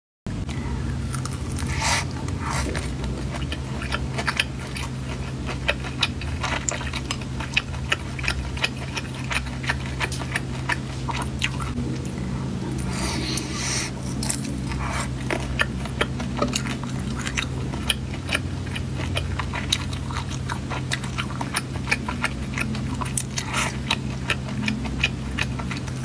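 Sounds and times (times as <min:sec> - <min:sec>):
steady low hum: 0:00.3 - 0:26.0
biting and chewing: 0:01.0 - 0:26.0.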